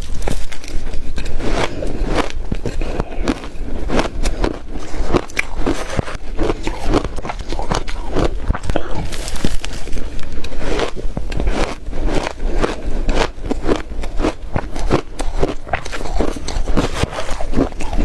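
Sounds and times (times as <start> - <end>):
ice being chewed: 0.0 - 18.0.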